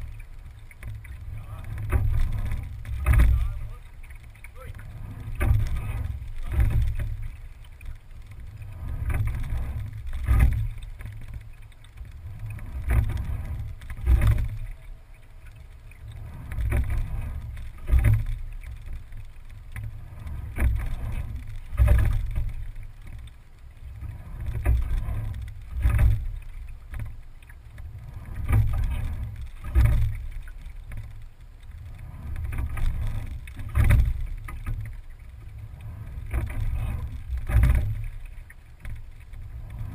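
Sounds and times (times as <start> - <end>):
oars clunking in oarlocks: 0.0 - 39.9
rumbling water and hull noise: 0.0 - 39.9.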